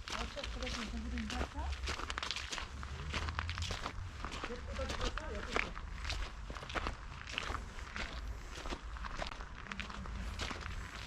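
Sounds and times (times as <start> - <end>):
footsteps walking: 0.0 - 11.0.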